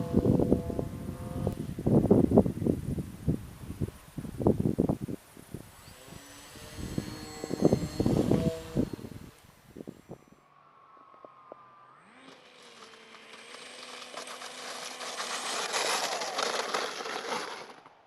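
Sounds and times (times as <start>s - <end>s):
model plane motor whining: 0.0s - 2.7s, 5.4s - 17.9s.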